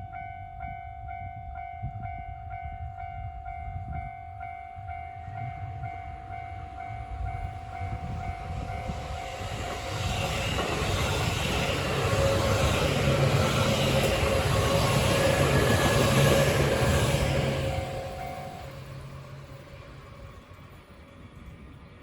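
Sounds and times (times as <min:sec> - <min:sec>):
train rumbling past: 0:00.2 - 0:22.0.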